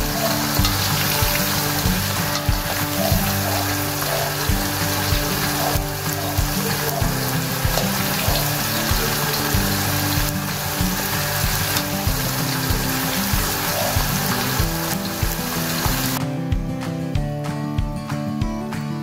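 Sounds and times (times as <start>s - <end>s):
chicken deep-frying in oil: 0.0s - 16.2s
background music with beat: 0.0s - 19.0s.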